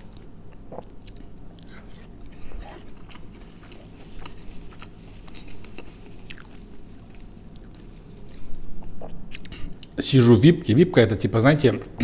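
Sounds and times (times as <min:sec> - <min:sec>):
man chewing crunchy food: 0:00.0 - 0:10.0
low steady hum: 0:00.0 - 0:12.0.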